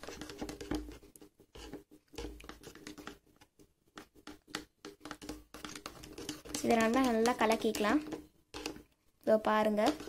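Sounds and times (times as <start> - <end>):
spoon scraping plastic bowl: 0.0 - 10.0.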